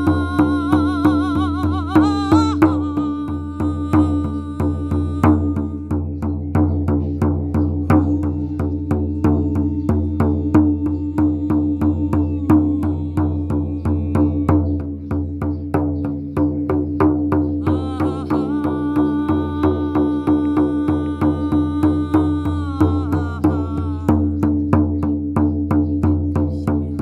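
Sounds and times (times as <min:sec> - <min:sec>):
frame drum beating: 0:00.0 - 0:27.0.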